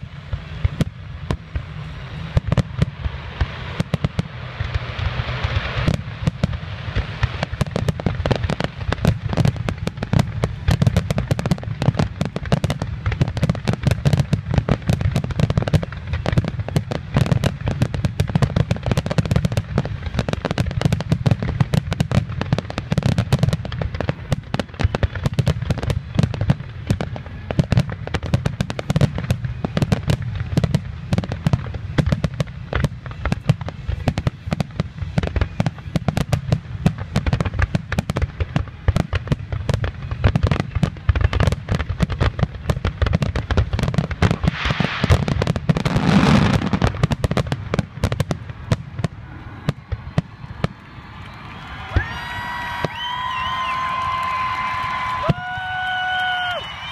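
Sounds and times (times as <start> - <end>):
fireworks bursting with bangs and crackles: 0.0 - 56.9.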